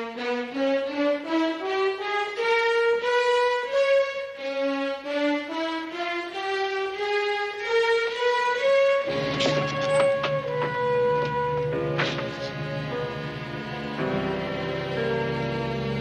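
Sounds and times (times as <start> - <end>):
slow sad violin music: 0.0 - 16.0.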